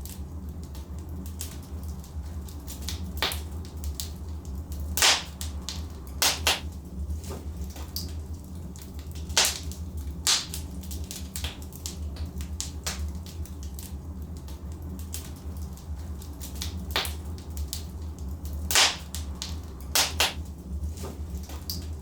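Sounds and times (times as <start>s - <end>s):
fireplace logs crackling: 0.0s - 22.0s
low fire rumble: 0.0s - 22.0s
sharp pops of fire: 2.7s - 8.1s, 8.9s - 18.0s, 18.7s - 21.9s.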